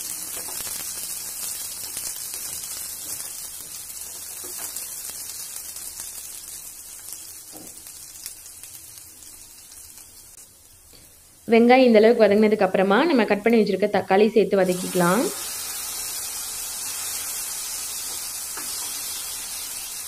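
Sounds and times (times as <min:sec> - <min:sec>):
onions sizzling in hot oil: 0:00.0 - 0:13.2, 0:14.6 - 0:20.0.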